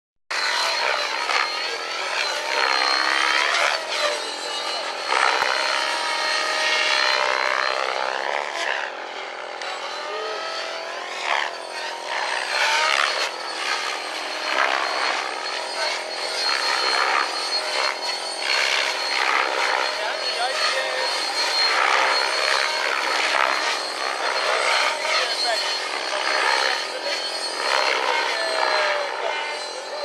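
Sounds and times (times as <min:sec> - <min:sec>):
model helicopter whine: 0:00.3 - 0:30.0.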